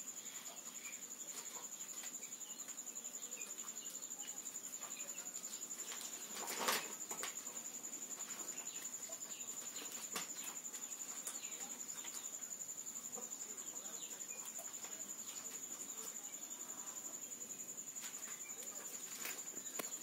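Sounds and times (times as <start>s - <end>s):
faint ticks and chirps: 0.0s - 20.0s
high-pitched insect trill: 0.0s - 20.0s.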